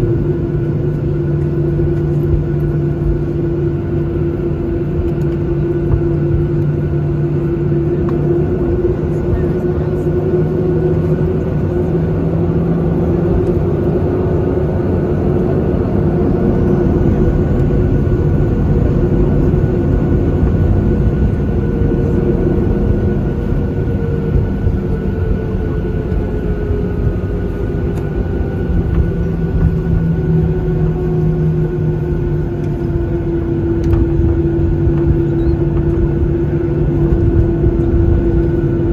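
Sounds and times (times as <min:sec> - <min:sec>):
airplane cabin rumble: 0:00.0 - 0:38.9
jet engines humming: 0:00.0 - 0:38.9.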